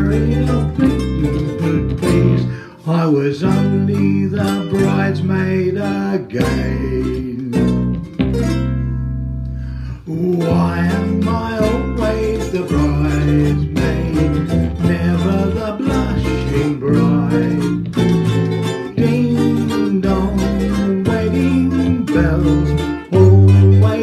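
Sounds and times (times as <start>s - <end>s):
bass line: 0.0s - 24.0s
ukuleles strummed: 0.0s - 24.0s.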